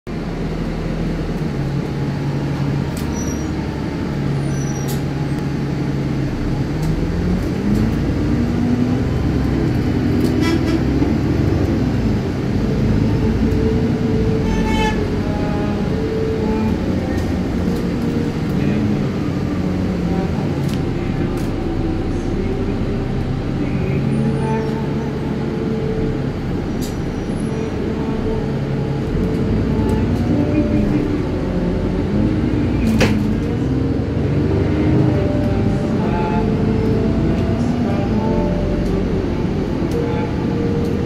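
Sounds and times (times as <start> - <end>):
bus engine: 0.1 - 41.0.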